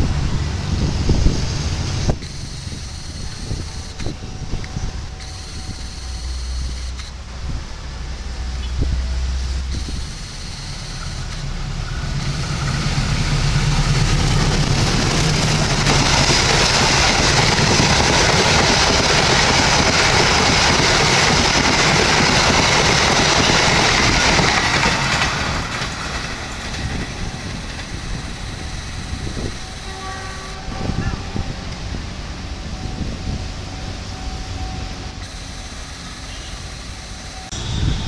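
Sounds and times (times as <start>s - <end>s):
locomotive engine hum: 0.0s - 38.0s
train wheels rushing on rails: 0.0s - 38.0s.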